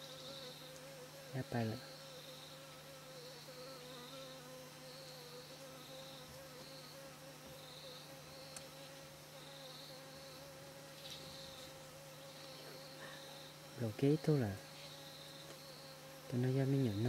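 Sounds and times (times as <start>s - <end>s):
insects chirping in high pulses: 0.0s - 17.0s
small insect buzzing: 0.0s - 17.0s.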